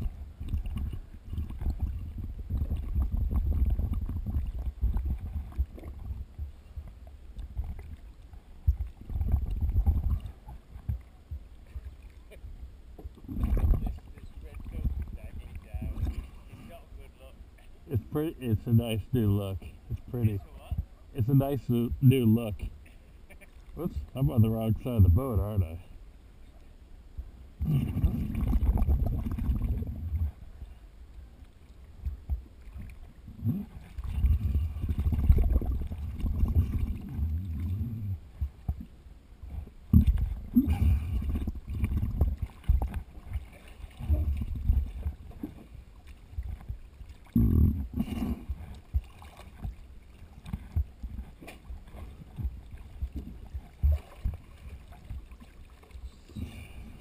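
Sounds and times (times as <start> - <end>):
water sloshing and gurgling: 0.0 - 57.0.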